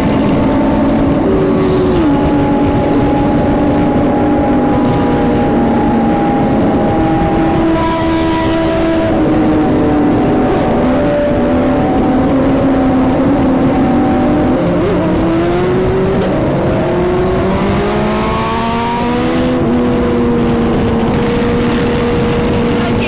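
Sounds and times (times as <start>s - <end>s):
motorcycle engine cruising: 0.0s - 23.0s
wind rush: 0.0s - 23.0s.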